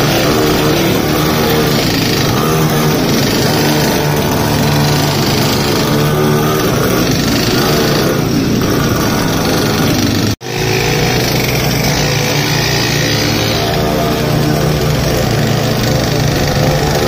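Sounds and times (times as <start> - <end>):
mini motorbike engines running: 0.0 - 17.0.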